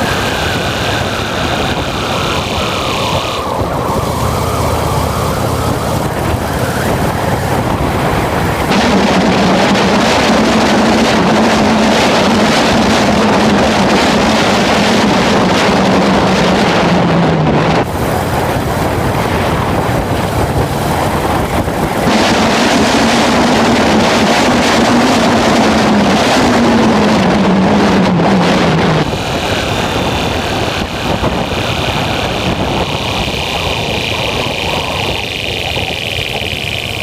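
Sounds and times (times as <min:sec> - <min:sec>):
motorcycle engine drone: 0:00.0 - 0:37.0
wind noise on microphone: 0:00.0 - 0:37.0.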